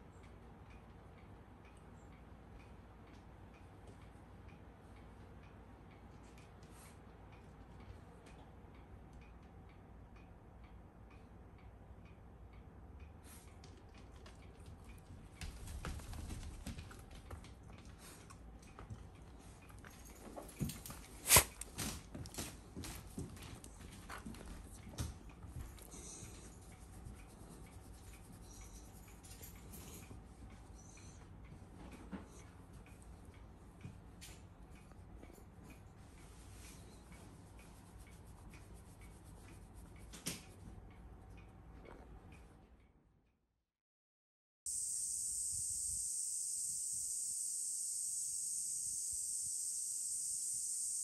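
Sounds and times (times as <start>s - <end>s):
steady low hum: 0.0s - 43.3s, 44.7s - 51.0s.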